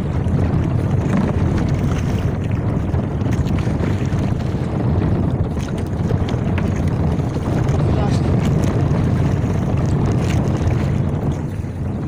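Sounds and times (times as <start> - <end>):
water washing against boat hull: 0.0 - 12.0
wind buffeting microphone: 0.0 - 12.0.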